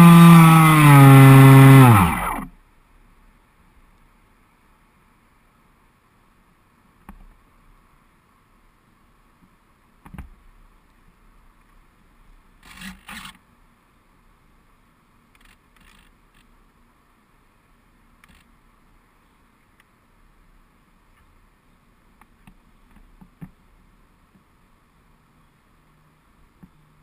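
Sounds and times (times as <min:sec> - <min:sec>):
faint steady hiss: 0:02.2 - 0:27.0.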